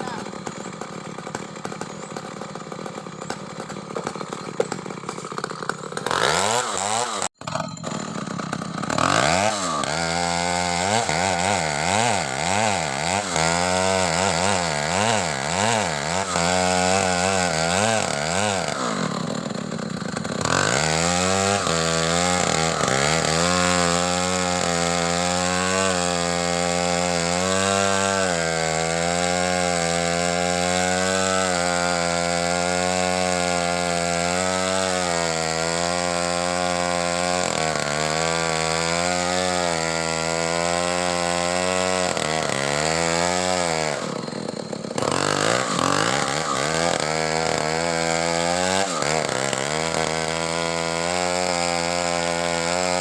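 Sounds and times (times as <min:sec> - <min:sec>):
chainsaw cutting wood: 0:00.0 - 0:53.0
chainsaw engine revving: 0:00.0 - 0:53.0.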